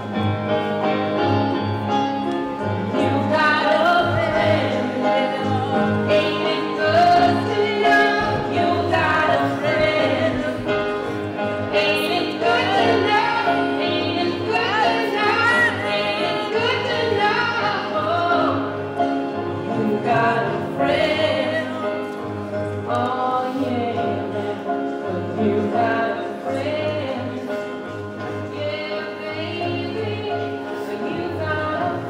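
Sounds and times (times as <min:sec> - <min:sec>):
women singing a hymn: 0:02.9 - 0:32.0.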